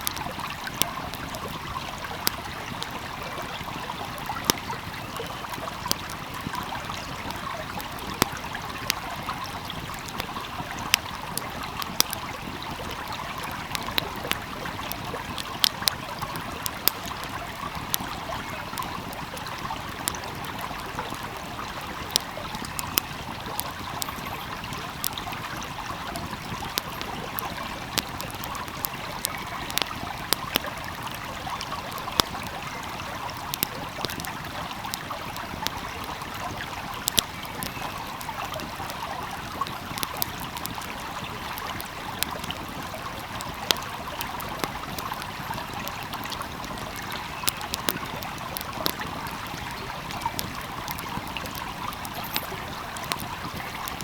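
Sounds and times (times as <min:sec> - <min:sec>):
stream trickling: 0:00.0 - 0:54.0
wood fire crackling: 0:00.0 - 0:54.0.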